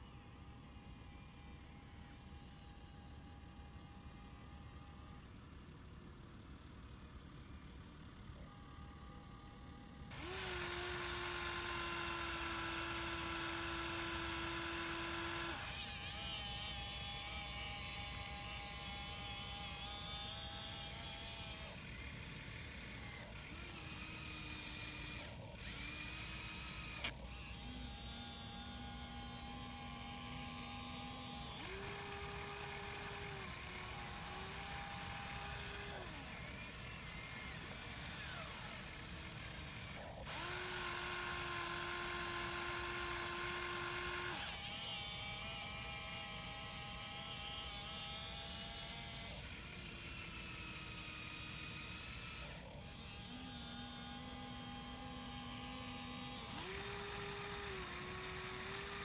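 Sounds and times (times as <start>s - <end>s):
electric motors and gears whining: 6.5s - 59.0s.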